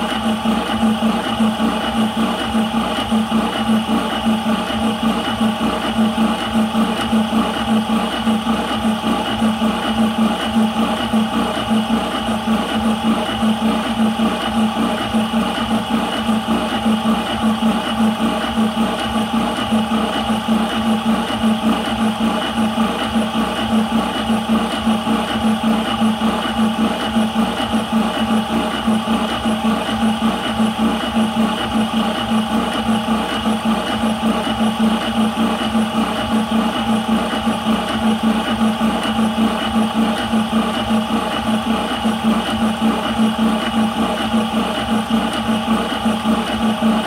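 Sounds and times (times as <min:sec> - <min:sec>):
air compressor running: 0:00.0 - 0:47.0.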